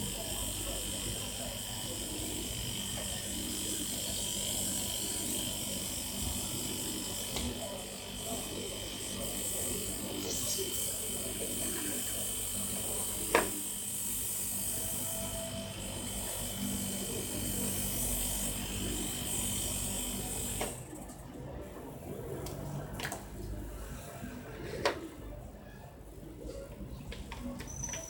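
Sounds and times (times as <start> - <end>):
compressor humming and hissing: 0.0 - 25.1.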